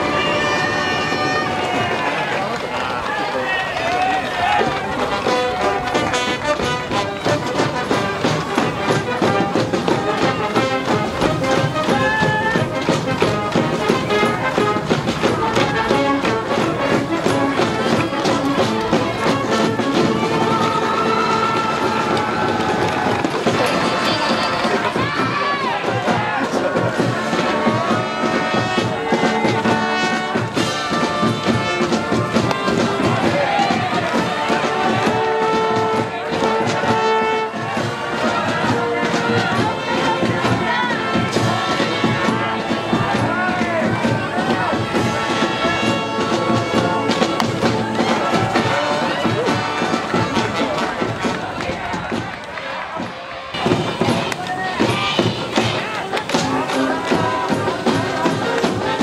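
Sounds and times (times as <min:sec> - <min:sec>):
steady drum beat: 0:00.0 - 0:52.4, 0:53.5 - 0:59.0
brass band playing: 0:00.0 - 0:59.0.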